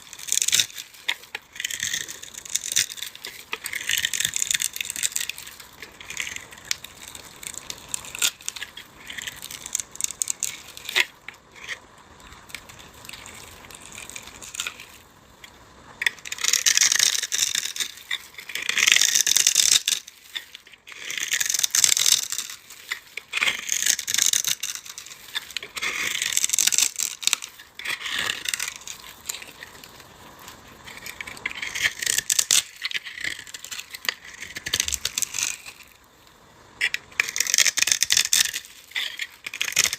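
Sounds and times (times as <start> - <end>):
brittle block crunching: 0.0 - 36.1, 36.8 - 39.9.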